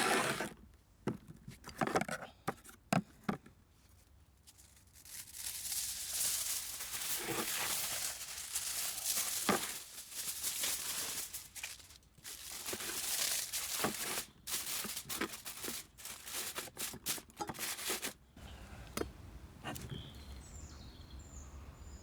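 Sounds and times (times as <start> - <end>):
rustling and crinkling: 0.0 - 20.2.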